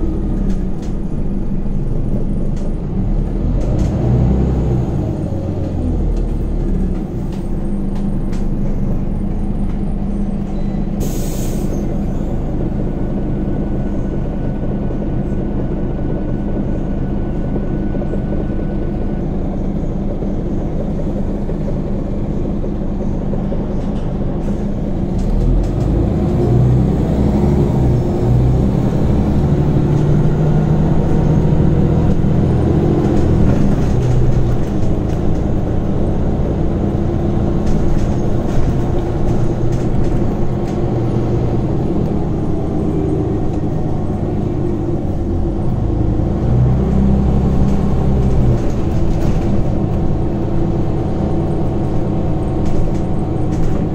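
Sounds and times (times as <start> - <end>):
bus engine running: 0.0 - 53.9.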